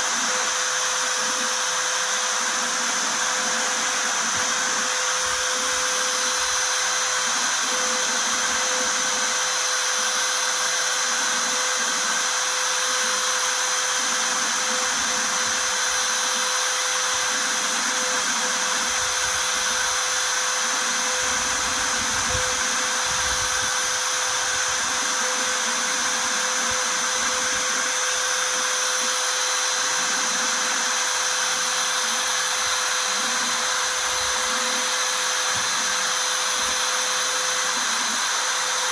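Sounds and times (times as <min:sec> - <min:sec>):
router spindle high whine: 0:00.0 - 0:38.9.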